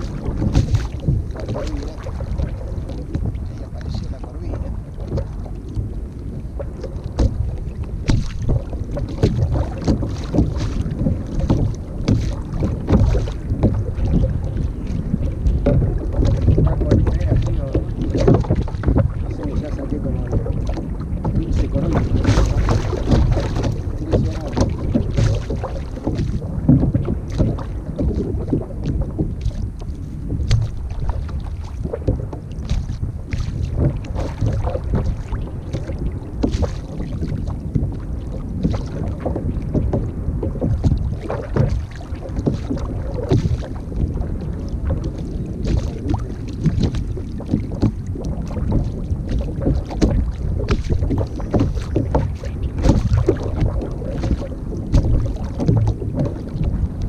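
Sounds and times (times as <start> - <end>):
water lapping against hull: 0.0 - 57.0
wind buffeting microphone: 0.0 - 57.0.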